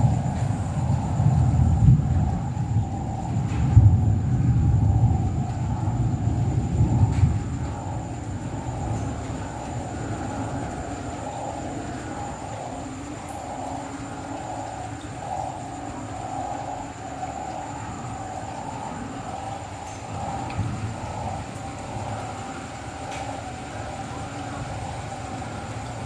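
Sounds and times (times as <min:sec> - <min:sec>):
chorus of frogs calling: 0:00.0 - 0:26.0
thin steady high tone: 0:04.6 - 0:26.0.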